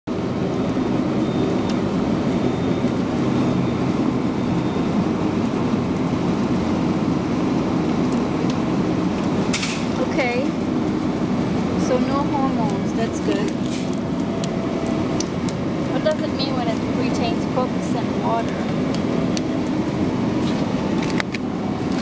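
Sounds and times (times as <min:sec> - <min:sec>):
low vehicle rumble: 0:00.1 - 0:22.0.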